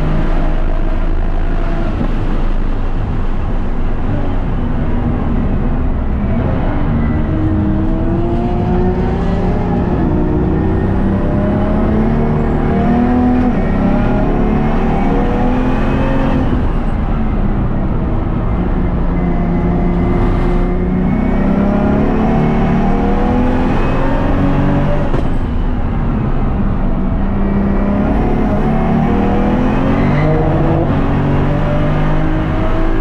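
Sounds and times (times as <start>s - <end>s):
race car engine accelerating: 4.1s - 17.0s, 17.6s - 25.4s, 27.2s - 33.0s.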